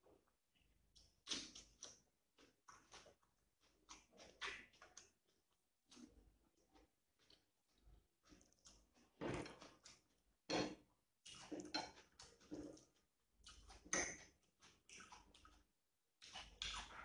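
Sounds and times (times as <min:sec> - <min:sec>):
person chewing: 0:01.0 - 0:17.0.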